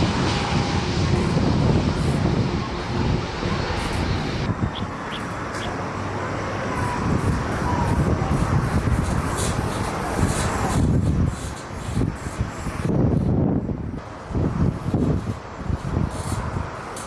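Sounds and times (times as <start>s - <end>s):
jet engine rumble and hiss: 0.0s - 17.0s.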